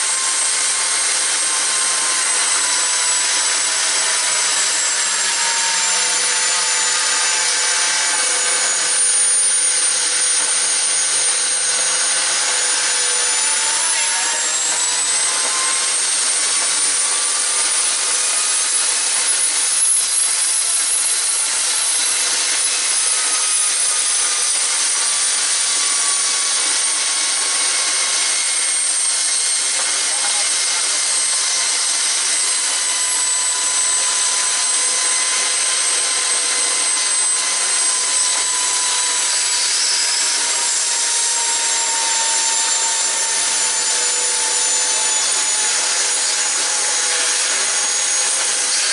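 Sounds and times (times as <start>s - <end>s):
turbocharger whine: 0.0s - 48.9s.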